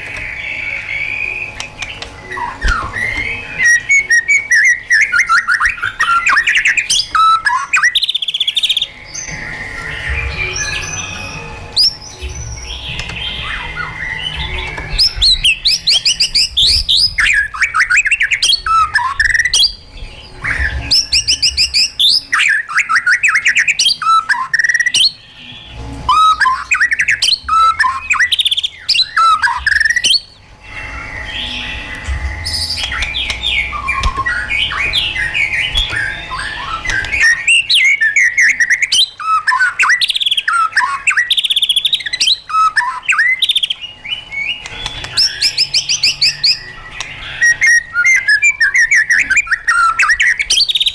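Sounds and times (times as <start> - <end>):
bird singing whistled notes: 0.2 - 50.9.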